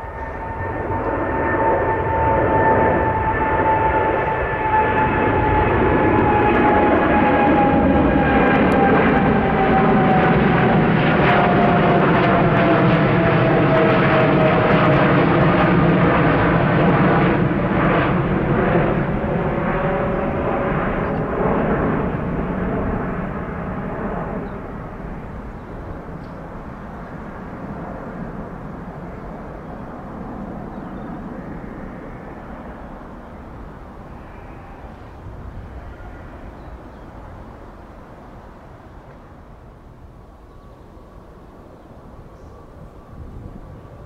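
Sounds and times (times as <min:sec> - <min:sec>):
jet engines roaring: 0:00.0 - 0:44.0.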